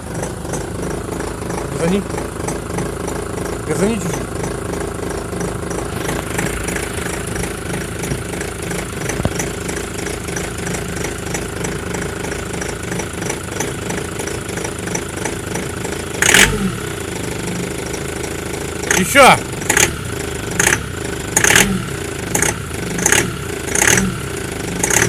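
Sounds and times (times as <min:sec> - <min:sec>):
engine knocking: 0:00.0 - 0:25.0
van engine running: 0:00.0 - 0:25.0.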